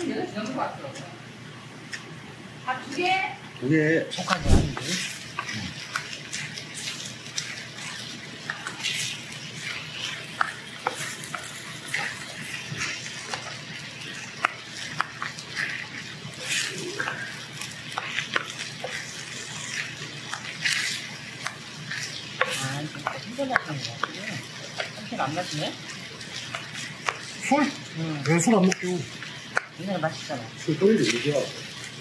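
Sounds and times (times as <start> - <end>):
rice sizzling on a griddle: 0.0 - 32.0.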